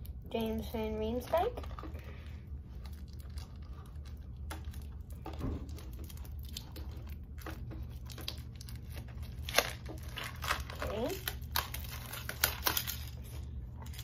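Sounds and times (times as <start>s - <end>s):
cardboard and plastic bag crinkling: 0.0s - 14.0s.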